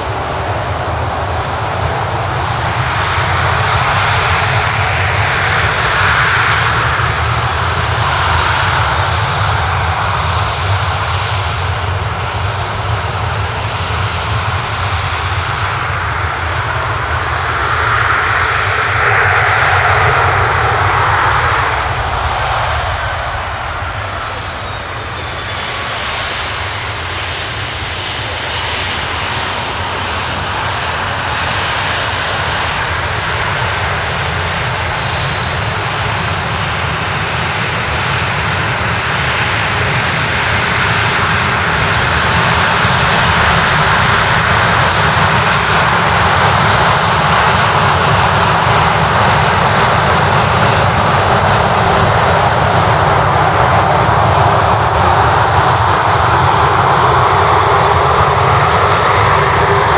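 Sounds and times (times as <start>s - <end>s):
aircraft engines rushing: 0.0s - 59.9s.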